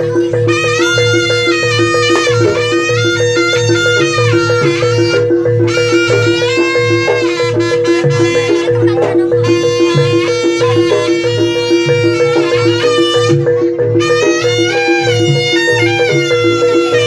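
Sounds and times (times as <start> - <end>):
low drum and gong beats: 0.0 - 17.0
metallophone pattern: 0.0 - 17.0
shawm playing melody: 0.0 - 17.0.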